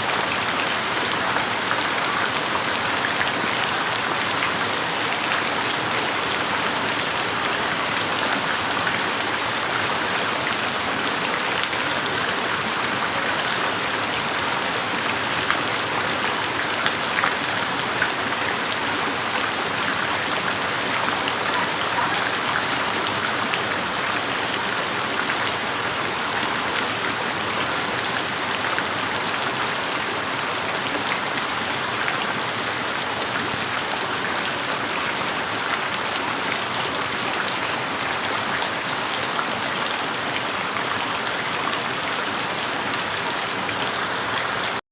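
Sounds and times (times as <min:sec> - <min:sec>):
steady rain falling: 0:00.0 - 0:44.8.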